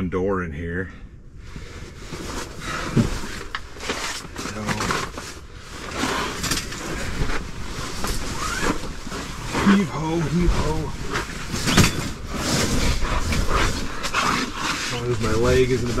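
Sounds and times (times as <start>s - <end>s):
cot dragged with scraping: 1.5s - 16.0s.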